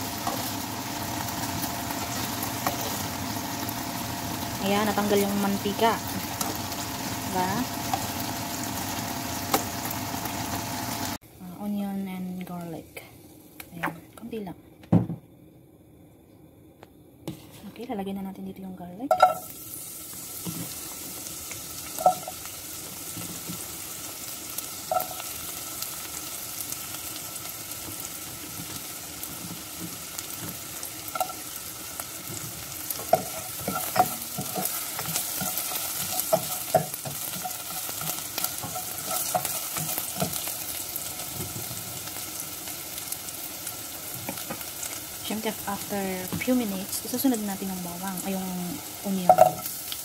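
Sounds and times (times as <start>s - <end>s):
garlic sizzling in hot oil: 0.0s - 11.2s, 19.1s - 50.0s.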